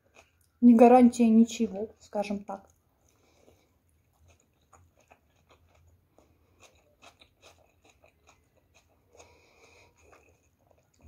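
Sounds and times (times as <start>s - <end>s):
chewing crunchy food: 0.0s - 0.7s, 1.9s - 11.0s.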